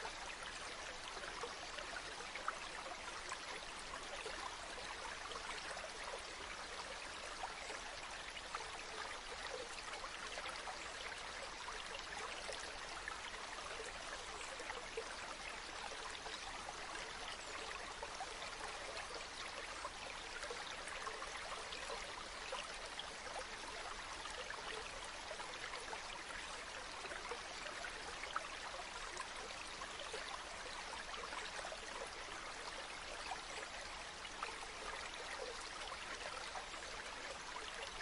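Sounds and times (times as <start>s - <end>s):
stream babbling over stones: 0.0s - 38.0s.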